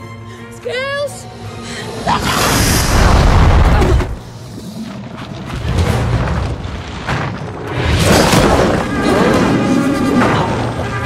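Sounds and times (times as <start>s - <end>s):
dramatic film score: 0.0s - 11.0s.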